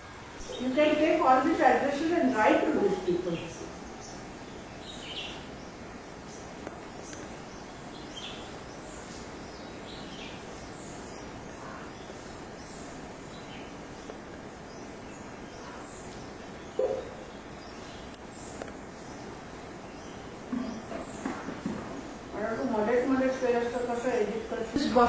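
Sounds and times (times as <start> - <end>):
birds chirping: 0.0 - 25.0
steady background hiss: 0.0 - 25.0.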